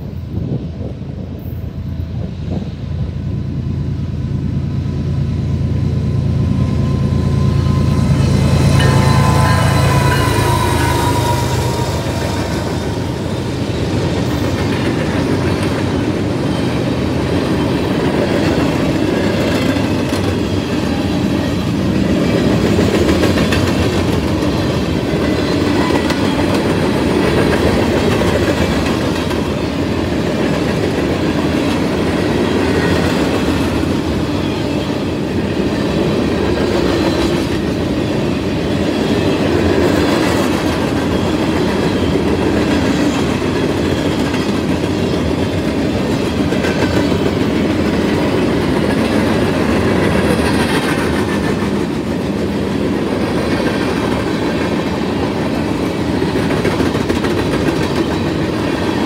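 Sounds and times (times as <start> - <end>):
steel wheels running on rails: 0.0 - 59.0.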